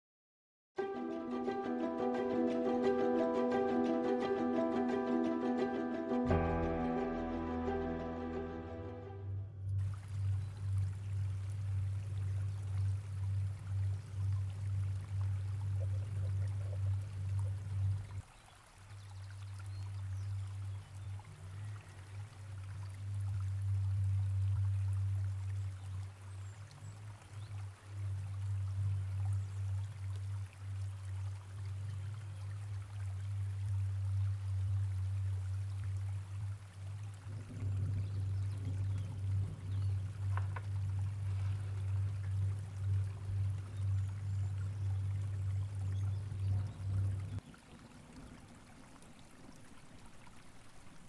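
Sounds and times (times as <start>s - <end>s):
low rumbling watery drone: 0.8s - 51.0s.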